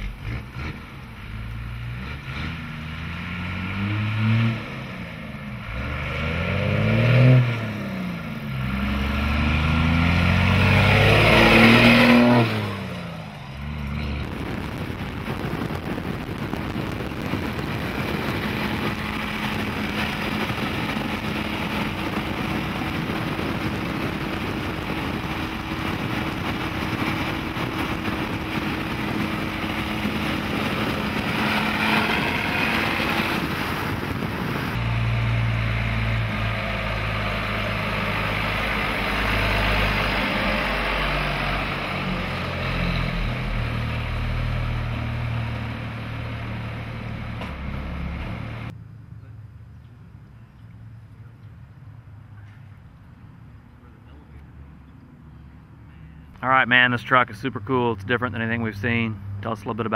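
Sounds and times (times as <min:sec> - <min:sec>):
engine drone: 0:00.0 - 0:51.4
diesel truck engine rumbling: 0:00.0 - 0:59.9
wind and road noise: 0:00.0 - 0:59.9.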